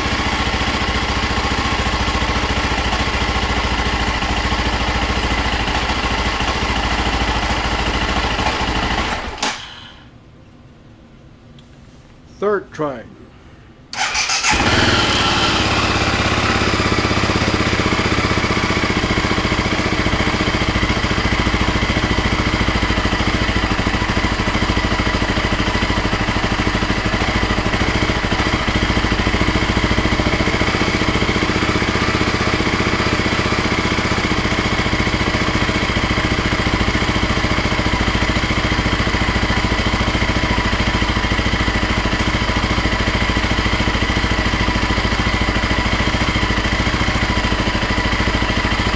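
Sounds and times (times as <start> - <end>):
single-cylinder engine running: 0.0 - 9.9, 13.9 - 48.9.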